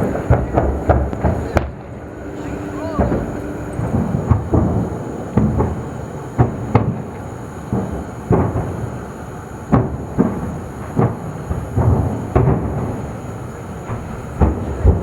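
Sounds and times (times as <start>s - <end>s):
gas cylinders exploding: 0.0s - 15.0s
steady low rumble: 0.0s - 15.0s.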